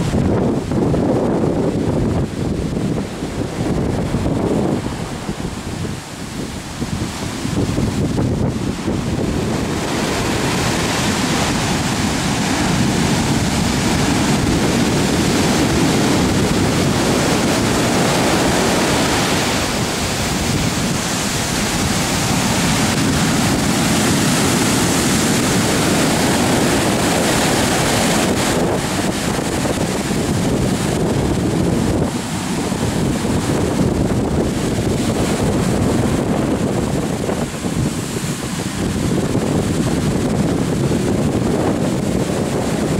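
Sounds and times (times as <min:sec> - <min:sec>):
waves crashing on beach: 0:00.0 - 0:42.9
wind buffeting microphone: 0:00.0 - 0:42.9.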